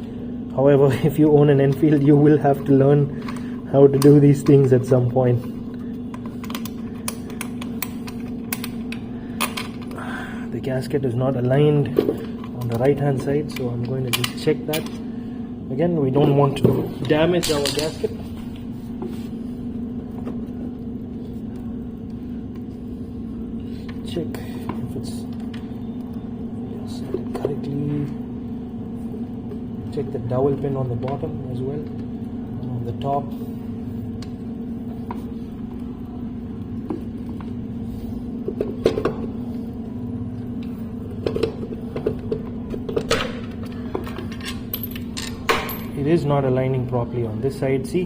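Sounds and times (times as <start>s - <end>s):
low mechanical drone: 0.0s - 48.0s
steady low hum: 0.0s - 48.0s.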